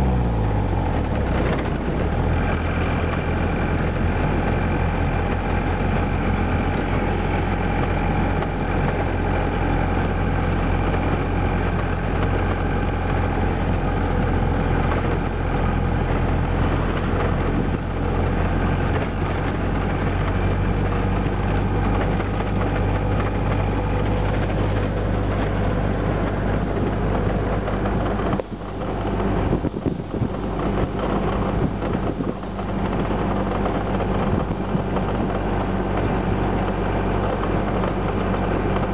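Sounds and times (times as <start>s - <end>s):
bus engine running: 0.0s - 38.9s
road and wind noise: 0.0s - 38.9s.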